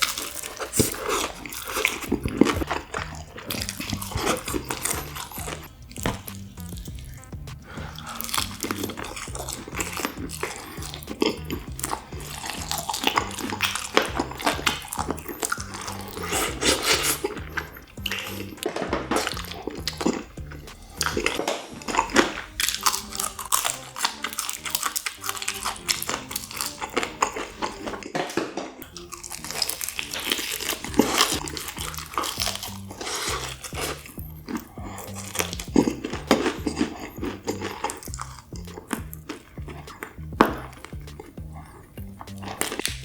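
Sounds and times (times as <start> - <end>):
crisp biting and chewing: 0.0 - 43.0
faint background music: 0.0 - 43.0.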